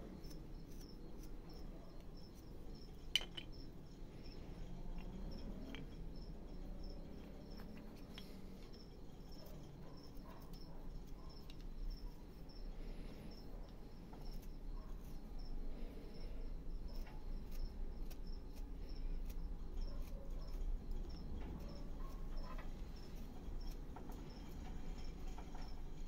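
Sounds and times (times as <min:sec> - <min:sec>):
knife carving wood: 0:00.0 - 0:15.8, 0:16.7 - 0:26.0
cricket chirping: 0:00.0 - 0:26.0.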